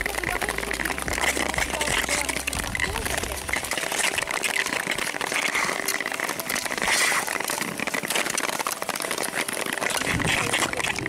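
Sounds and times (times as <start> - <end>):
skate blades scraping ice: 0.0 - 11.0
ski pole tips clicking on ice: 0.0 - 11.0.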